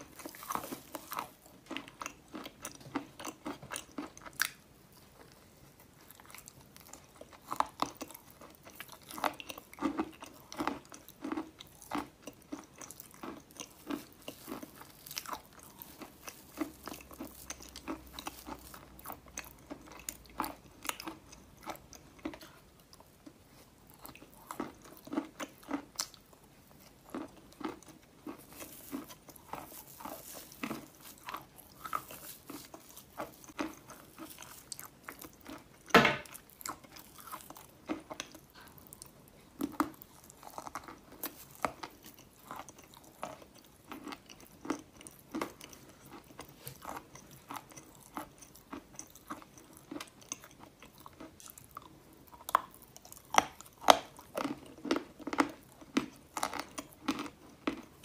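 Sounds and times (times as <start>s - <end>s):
chalk crunching while chewed: 0.0s - 58.0s.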